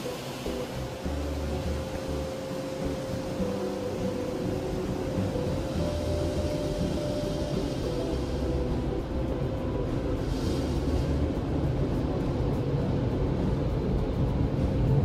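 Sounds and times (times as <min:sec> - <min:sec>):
car wash blower dryers rumbling: 0:00.0 - 0:15.0.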